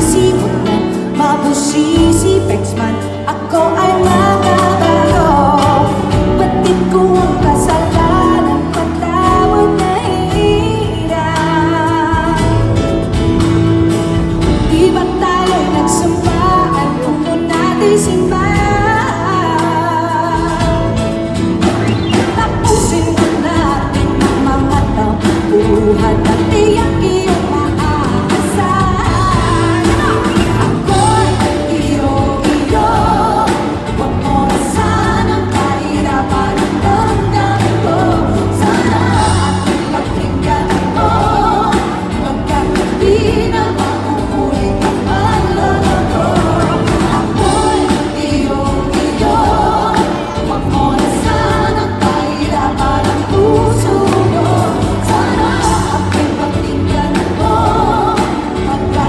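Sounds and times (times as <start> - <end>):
live band playing: 0.0 - 59.0
woman singing pop song: 0.0 - 59.0.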